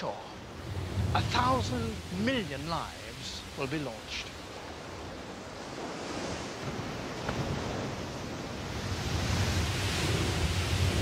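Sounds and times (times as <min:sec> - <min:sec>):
ocean surf breaking on rocks: 0:00.0 - 0:11.0.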